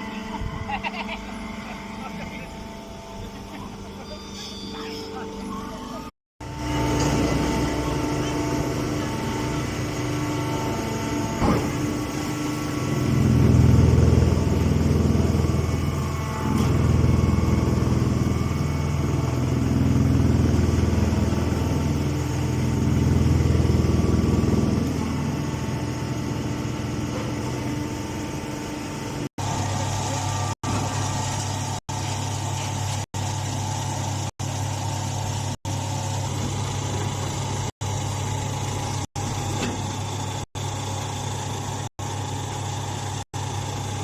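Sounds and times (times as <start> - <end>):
baling machine engine running: 0.0 - 44.0.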